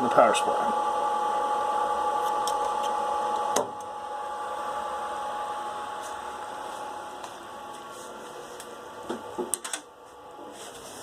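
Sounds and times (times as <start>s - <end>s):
fan winding down: 0.0s - 10.4s
cooling fan whine: 0.0s - 11.0s.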